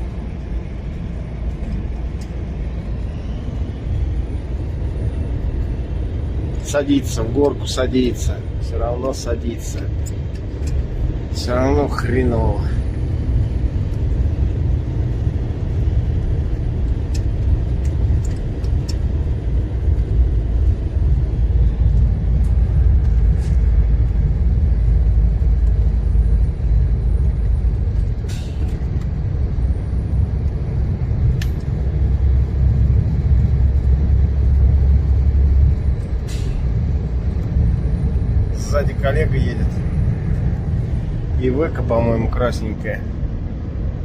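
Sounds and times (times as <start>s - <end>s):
truck diesel engine labouring: 0.0s - 44.0s.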